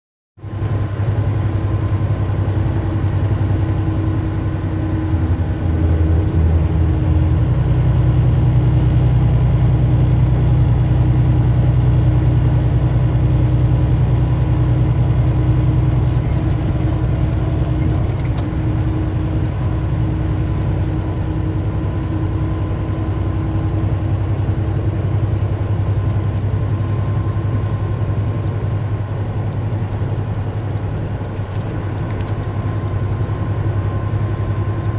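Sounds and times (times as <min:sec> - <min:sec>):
truck engine drone in cab: 0:00.4 - 0:34.9.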